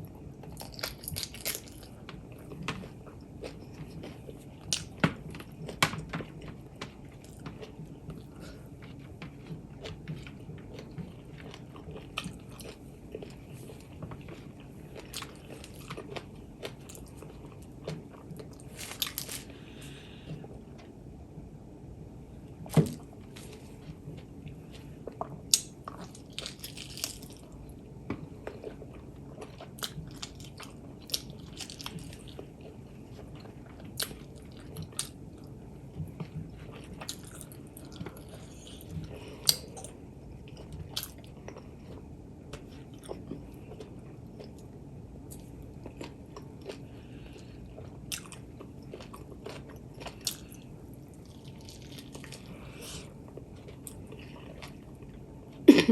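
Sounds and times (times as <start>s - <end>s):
person chewing food: 0.0s - 21.5s, 22.4s - 55.6s.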